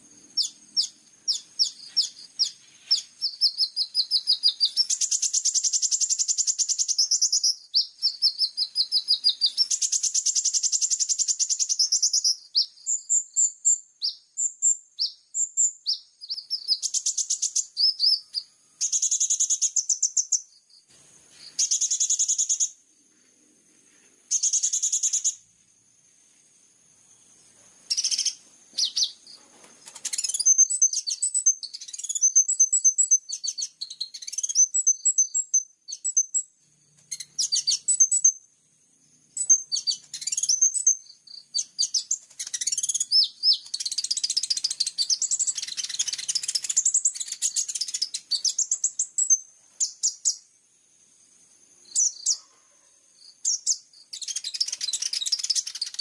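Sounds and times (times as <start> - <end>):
faint high insect-like tone: 0.0 - 56.0
songbirds chirping and trilling: 0.0 - 56.0.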